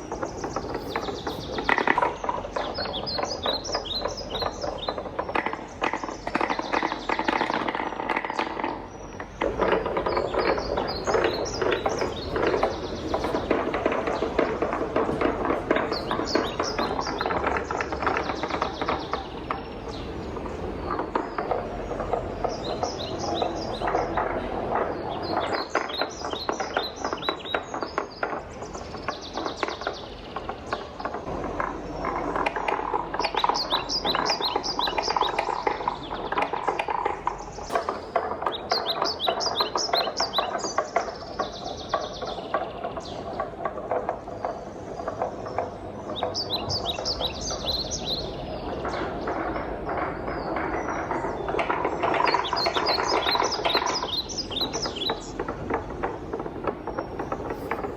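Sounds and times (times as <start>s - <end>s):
wooden balls rolling and clattering: 0.0s - 57.9s.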